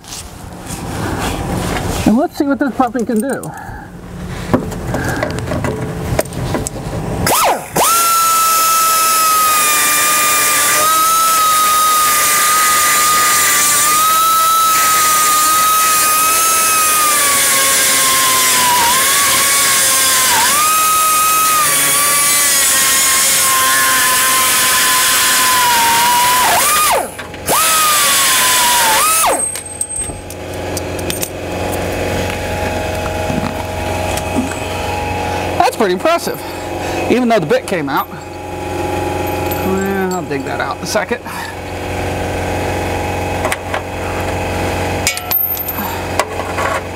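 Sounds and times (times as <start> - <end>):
air die grinder whining: 7.2 - 46.9.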